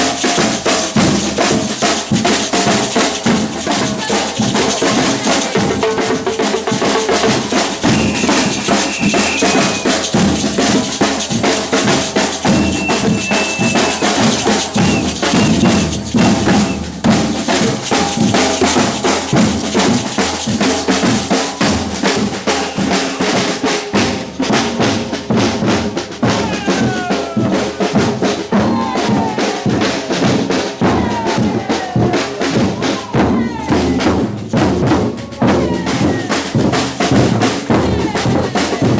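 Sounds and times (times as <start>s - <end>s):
samba percussion ensemble: 0.0s - 38.9s.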